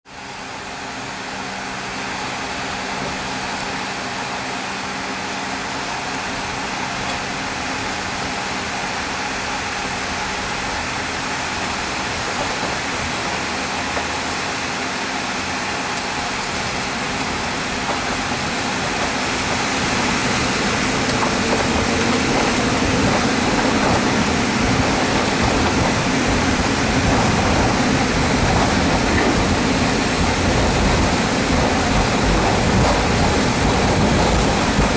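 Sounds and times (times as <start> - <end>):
jet engines humming in cabin: 0.1 - 34.9.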